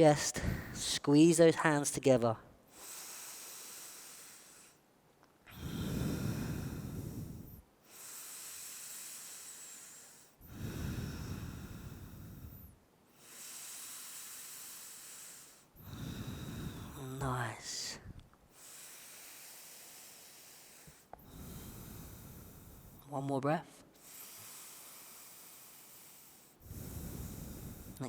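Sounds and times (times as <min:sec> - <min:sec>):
person breathing deeply: 0:00.4 - 0:00.9, 0:02.7 - 0:04.8, 0:05.5 - 0:23.0, 0:23.9 - 0:28.0.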